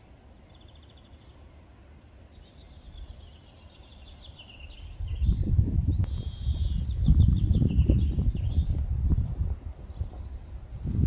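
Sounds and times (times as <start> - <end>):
songbird chirping and trilling: 0.0 - 10.7.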